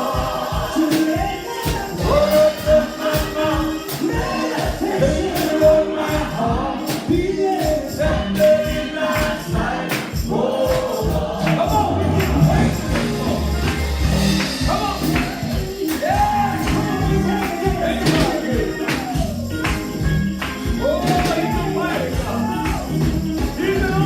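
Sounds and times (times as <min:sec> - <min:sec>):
gospel singing: 0:00.0 - 0:24.0
percussion beat with bass: 0:00.0 - 0:24.0.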